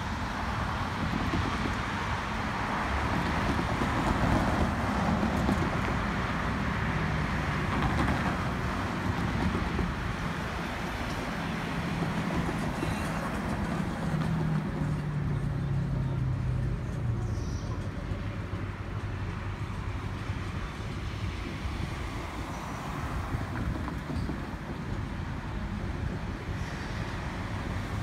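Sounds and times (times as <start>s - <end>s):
distant diesel locomotive drone: 0.0s - 28.0s
vehicles driving over crossing: 0.0s - 28.0s.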